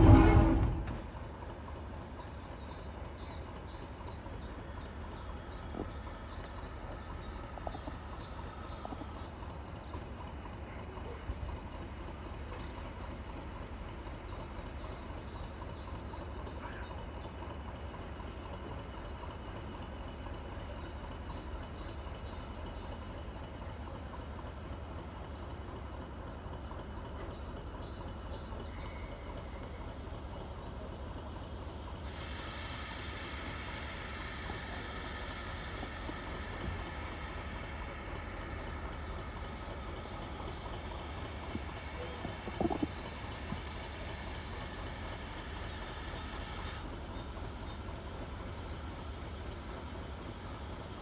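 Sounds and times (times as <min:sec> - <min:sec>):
train rumbling: 0:00.0 - 0:51.0.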